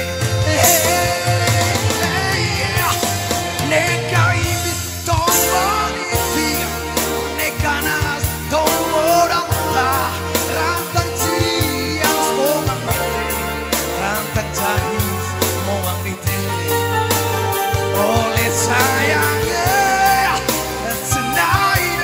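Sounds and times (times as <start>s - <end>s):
man singing raspy into microphone: 0.0s - 17.0s, 17.7s - 22.0s
bass line: 0.0s - 22.0s
keyboard backing: 0.0s - 22.0s
steady drum beat: 0.0s - 22.0s.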